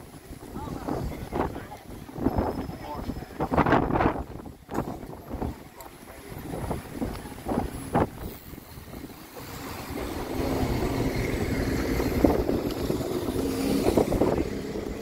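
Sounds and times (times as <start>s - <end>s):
buses and traffic passing: 0.0s - 15.0s.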